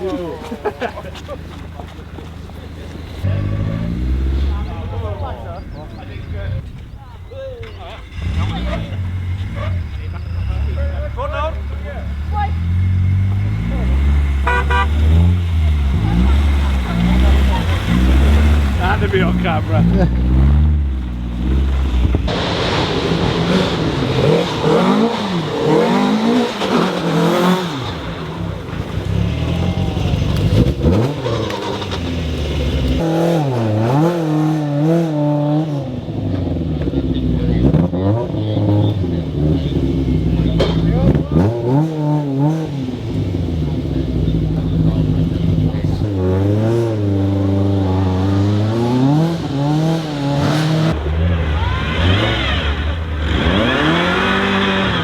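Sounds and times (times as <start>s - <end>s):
rally car engine at full throttle: 0.0s - 55.0s.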